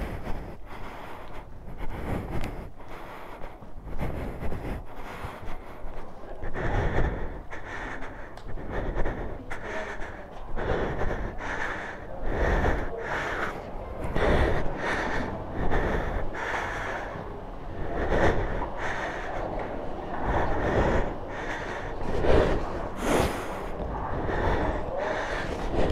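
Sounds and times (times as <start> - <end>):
person breathing hard: 0.0 - 25.9.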